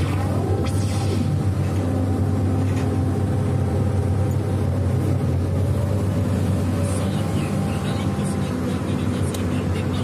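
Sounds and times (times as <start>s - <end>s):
diesel engine low drone: 0.0s - 10.0s.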